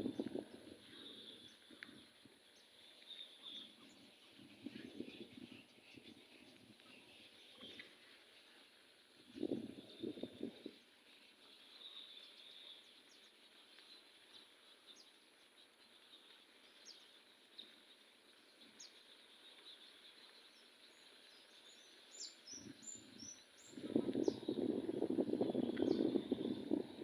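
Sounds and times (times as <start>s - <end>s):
birds chirping: 0.0s - 27.0s
steady high hiss: 0.0s - 27.0s.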